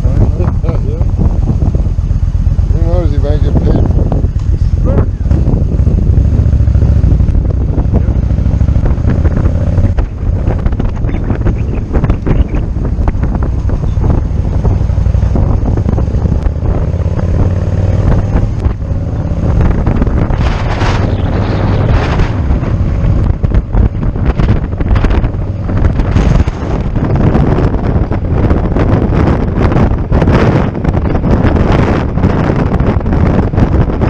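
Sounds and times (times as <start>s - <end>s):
motorcycle engine and road rumble: 0.0s - 34.0s
wind buffeting microphone: 0.0s - 34.0s.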